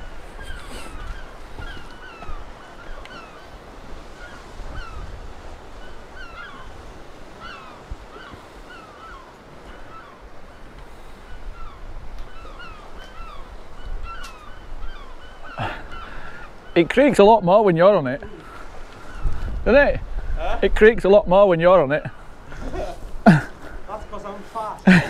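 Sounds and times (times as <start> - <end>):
flock of birds calling: 0.0 - 20.3, 21.8 - 25.0.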